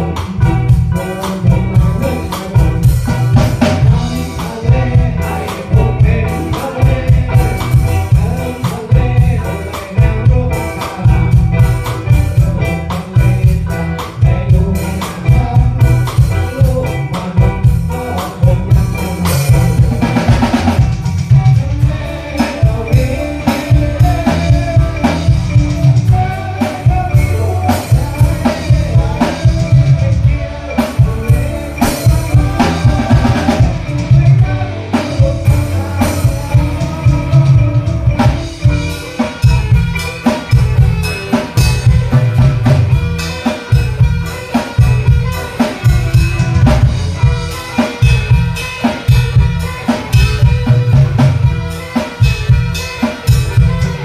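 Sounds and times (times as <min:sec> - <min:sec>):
band music: 0:00.0 - 0:54.0
bass line: 0:00.0 - 0:54.0
drum kit beat: 0:00.0 - 0:54.0.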